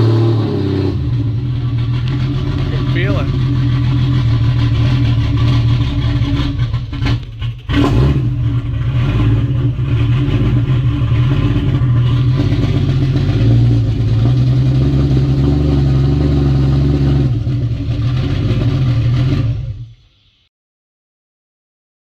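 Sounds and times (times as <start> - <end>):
car engine running: 0.0 - 20.2.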